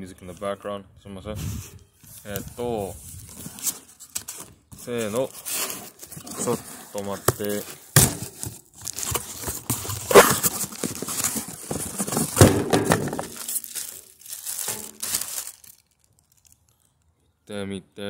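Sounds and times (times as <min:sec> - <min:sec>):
plastic wrapping crinkling: 0:02.0 - 0:17.1.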